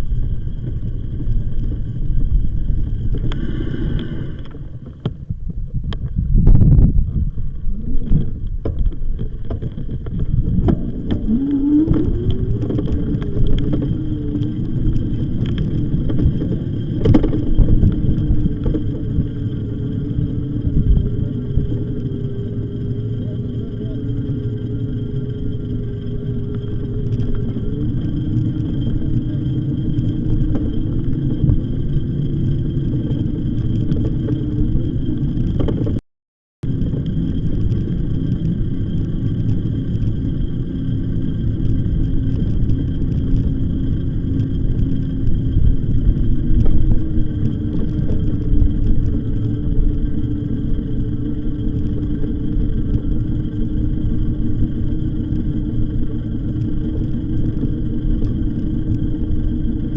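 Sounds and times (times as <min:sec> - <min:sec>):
faint steady hum: 0:00.0 - 0:36.0, 0:36.6 - 0:59.9
wind and bike riding noise: 0:00.0 - 0:36.0, 0:36.6 - 0:59.9.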